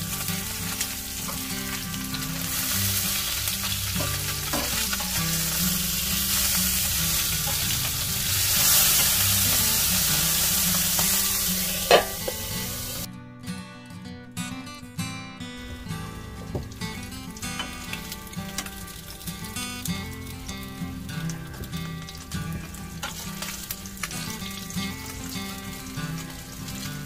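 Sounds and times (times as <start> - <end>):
fish sizzling in a pan: 0.0 - 13.1, 16.0 - 27.0
soft background music: 0.0 - 13.1, 15.6 - 27.0.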